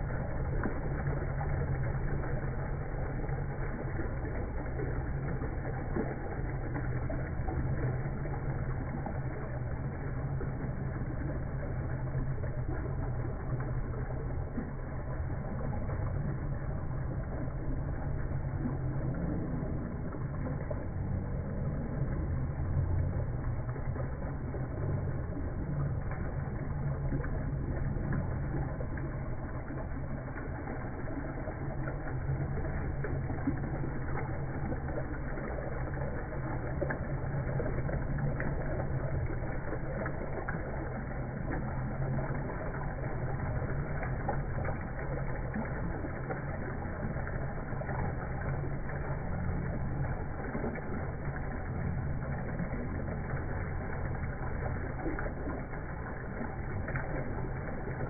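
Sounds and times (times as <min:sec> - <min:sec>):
water rushing down rocks: 0:00.0 - 0:58.0.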